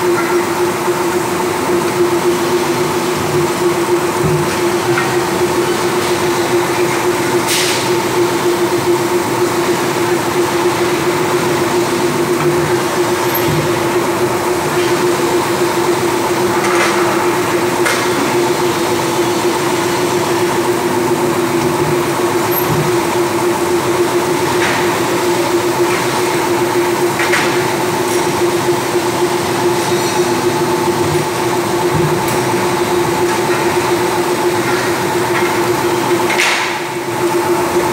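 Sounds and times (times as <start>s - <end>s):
loud steady machine hum: 0.0s - 37.9s.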